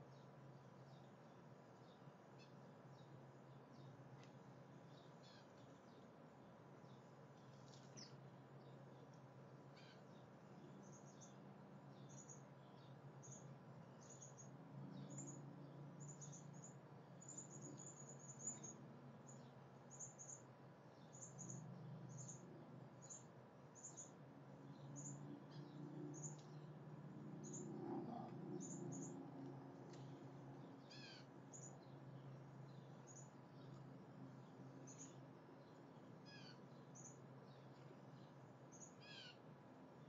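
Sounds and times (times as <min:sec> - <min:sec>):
low steady background hum: 0:00.0 - 0:40.0.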